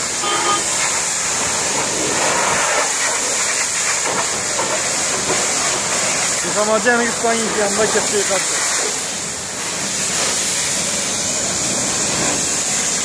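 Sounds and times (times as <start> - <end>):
pressure washer spraying metal: 0.0 - 13.0.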